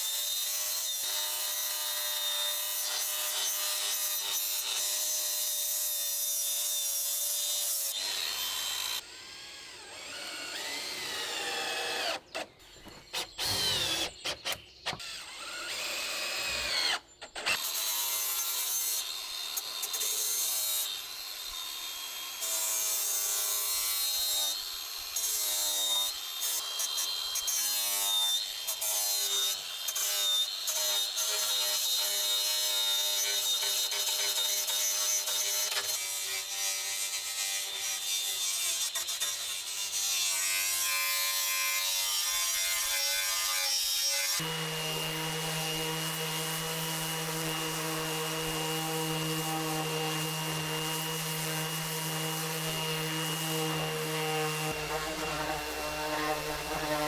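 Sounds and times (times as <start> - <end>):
electric power tool working wood: 0.0 - 57.0.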